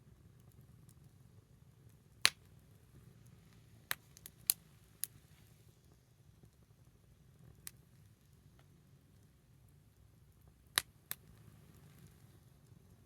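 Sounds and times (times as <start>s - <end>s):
wood fire crackling: 0.1s - 13.0s.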